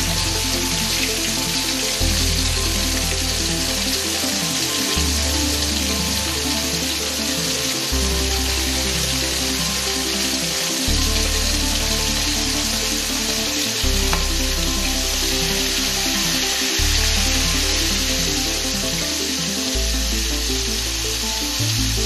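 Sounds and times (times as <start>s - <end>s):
background music with bass: 0.0s - 22.0s
food deep-frying in oil: 0.0s - 22.0s.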